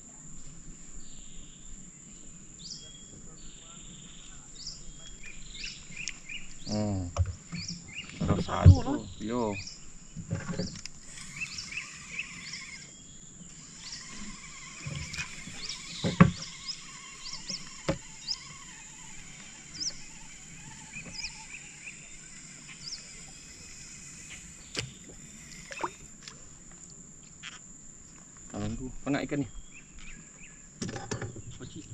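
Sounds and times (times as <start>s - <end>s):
insect drone: 0.0s - 31.9s
bird chirping: 1.0s - 26.0s, 28.6s - 31.9s.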